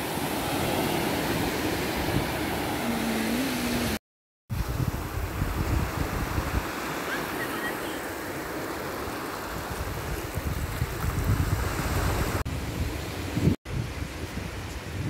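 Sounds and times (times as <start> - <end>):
wind gusting on microphone: 0.0 - 7.0, 9.5 - 15.0
sea surf washing on beach: 0.0 - 15.0.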